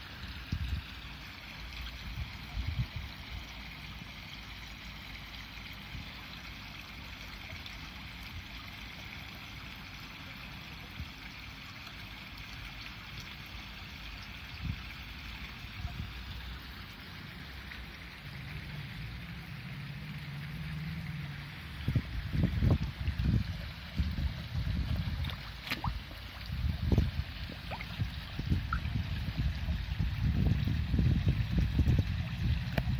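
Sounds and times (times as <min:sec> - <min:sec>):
fish slurping and splashing: 0:00.0 - 0:32.9
water trickling: 0:00.0 - 0:32.9.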